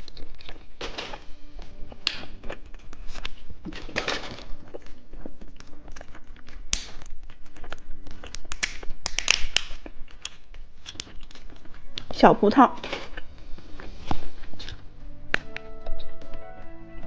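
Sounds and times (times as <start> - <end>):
chewing gummy candy: 0.0 - 15.0.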